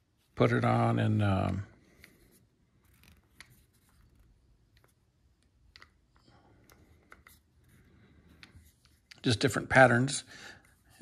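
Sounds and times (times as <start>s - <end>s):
faint clicks and scratches: 0.7s - 9.9s.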